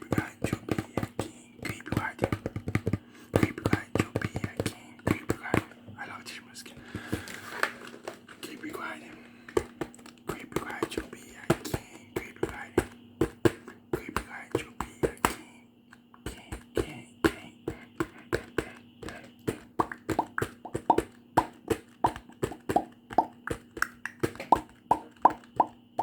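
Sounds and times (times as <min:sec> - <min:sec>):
sharp clicking and popping: 0:00.0 - 0:05.8, 0:09.5 - 0:26.0
faint steady hum: 0:00.0 - 0:26.0.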